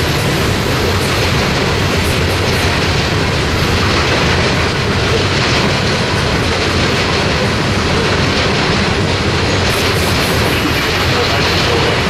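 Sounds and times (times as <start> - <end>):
train wheels running on rails: 0.0 - 12.0.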